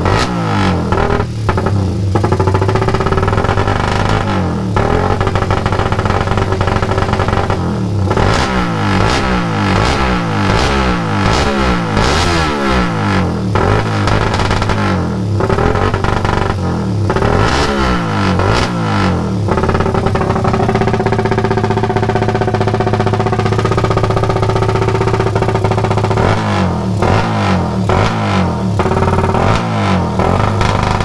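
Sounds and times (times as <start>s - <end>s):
racing engine revving: 0.0s - 31.0s.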